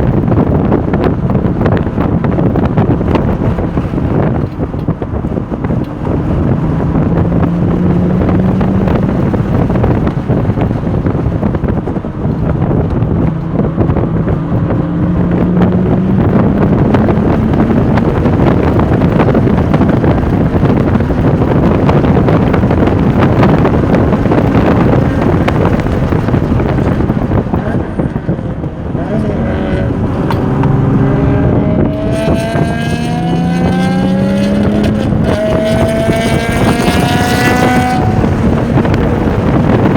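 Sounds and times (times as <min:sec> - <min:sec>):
car engine accelerating: 0:00.0 - 0:39.9
wind buffeting microphone: 0:00.0 - 0:39.9.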